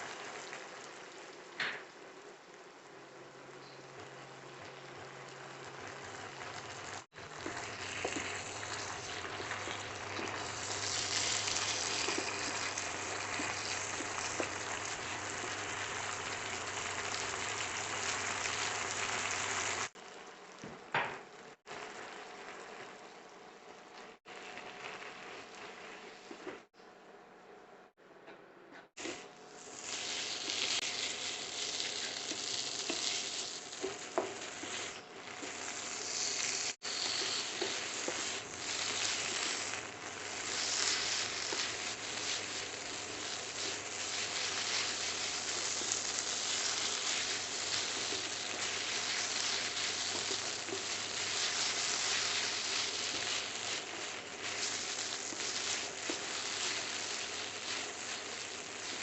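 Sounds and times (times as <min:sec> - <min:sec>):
vegetables sizzling in hot oil: 0:00.0 - 0:26.6, 0:29.0 - 0:59.0.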